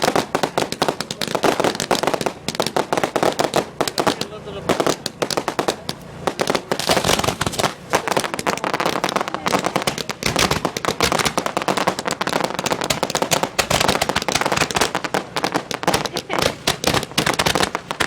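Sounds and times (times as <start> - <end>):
fireworks crackling and banging: 0.0 - 18.0.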